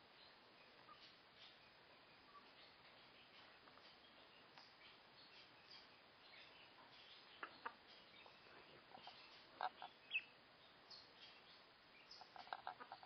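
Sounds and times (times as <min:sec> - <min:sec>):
gosling peeping: 0:00.1 - 0:13.0.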